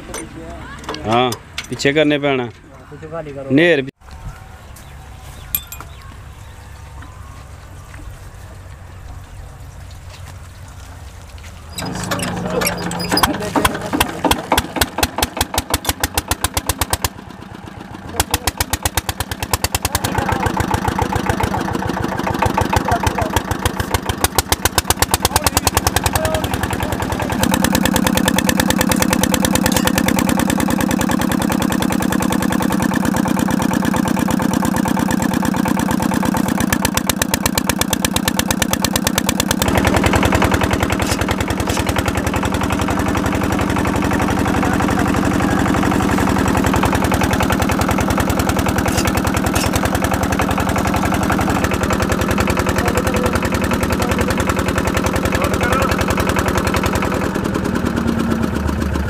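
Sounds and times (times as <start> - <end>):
diesel engine running: 4.3 - 59.0.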